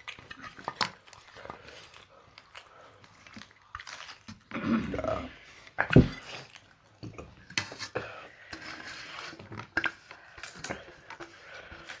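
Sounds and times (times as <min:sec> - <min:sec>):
soft wet squishing: 0:00.0 - 0:12.0.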